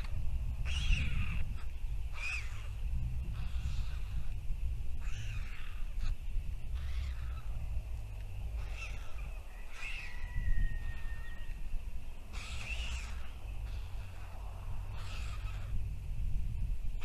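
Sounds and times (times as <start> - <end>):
harsh bird calls: 0.0 - 16.0
wind rumble on microphone: 0.0 - 17.0.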